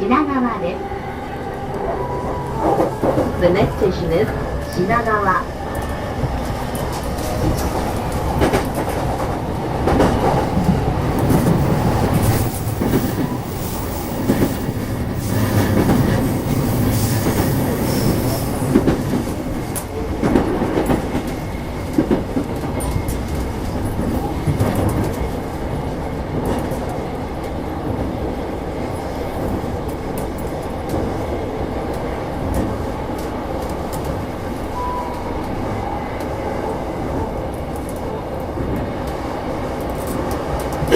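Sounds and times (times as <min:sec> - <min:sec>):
train running rumble: 0:00.0 - 0:40.9.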